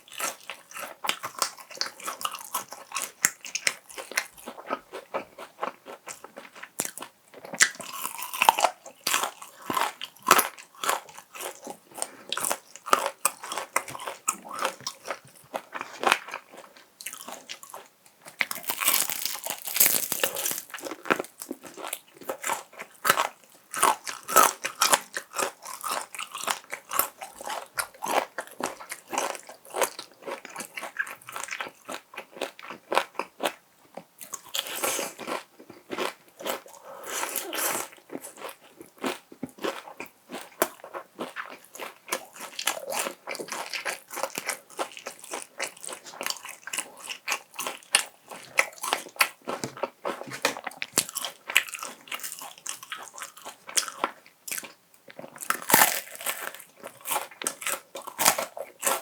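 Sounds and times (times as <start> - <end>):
crunchy chewing of fried chicken: 0.0 - 59.0.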